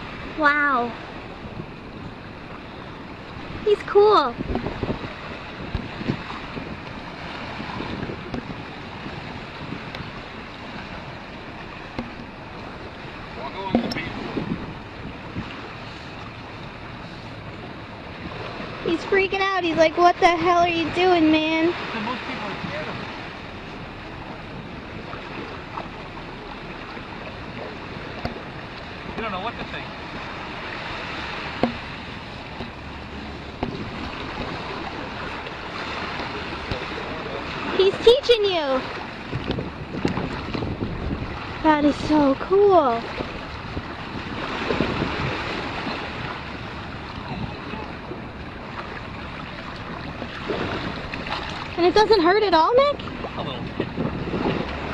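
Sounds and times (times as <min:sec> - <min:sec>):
ocean surf: 0:00.0 - 0:54.9
wind on microphone: 0:00.0 - 0:54.9.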